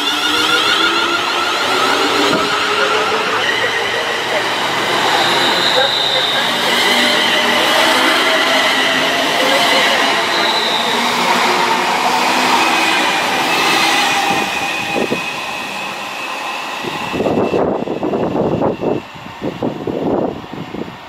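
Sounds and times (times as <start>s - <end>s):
electric train whine: 0.0s - 21.0s.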